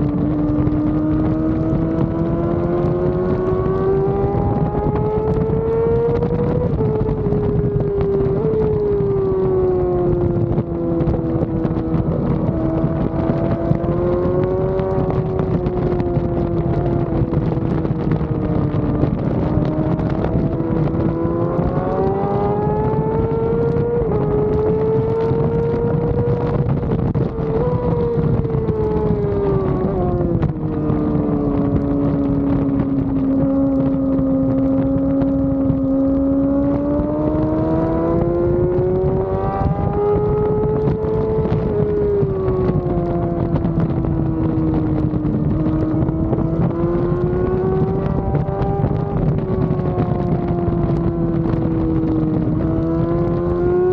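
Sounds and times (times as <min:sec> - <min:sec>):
sport bike engine under load: 0:00.0 - 0:53.9
wind buffeting: 0:00.0 - 0:53.9.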